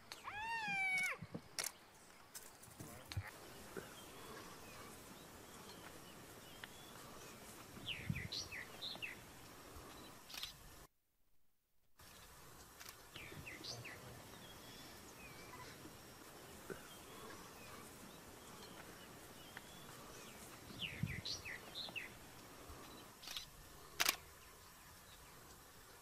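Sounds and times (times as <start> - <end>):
small birds chirping: 0.0 - 10.8, 12.0 - 26.0.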